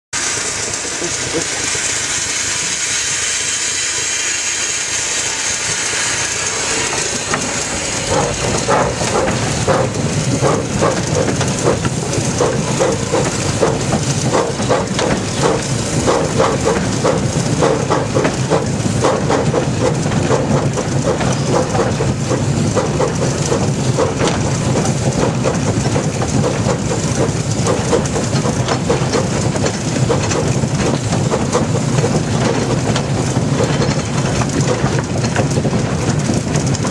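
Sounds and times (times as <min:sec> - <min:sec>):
steam locomotive hissing: 0:00.2 - 0:36.9
locomotive rhythmic beat: 0:06.9 - 0:36.9.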